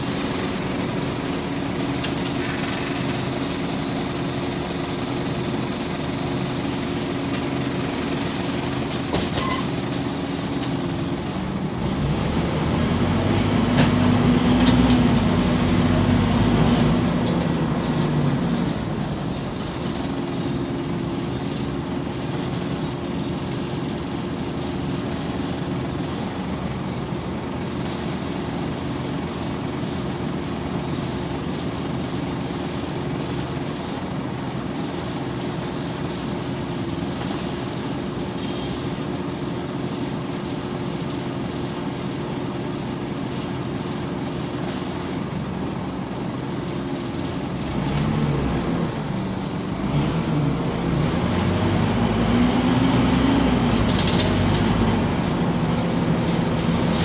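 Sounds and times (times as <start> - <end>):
bus engine hum: 0.0 - 57.0.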